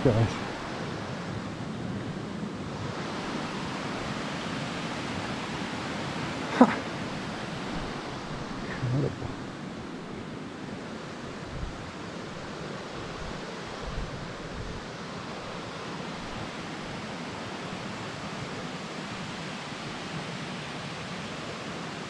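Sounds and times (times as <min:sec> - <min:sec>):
water rushing from waterfall: 0:00.0 - 0:22.0.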